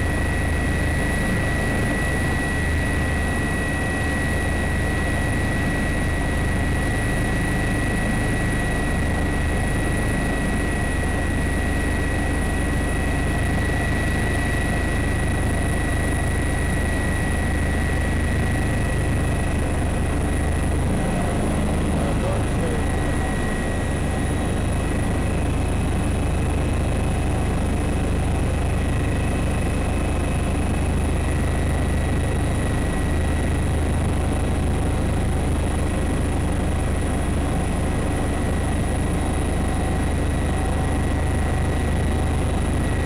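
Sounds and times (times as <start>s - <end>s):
aircraft cabin drone: 0.0s - 43.0s.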